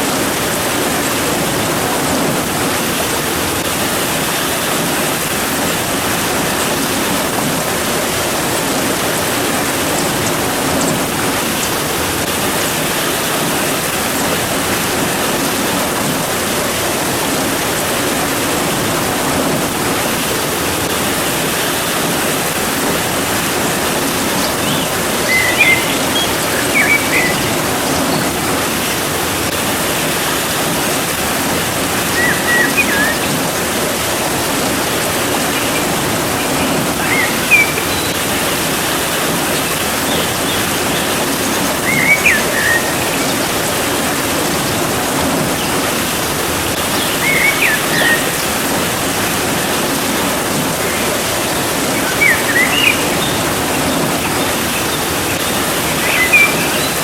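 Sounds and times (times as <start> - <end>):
dense rainfall: 0.0 - 57.0.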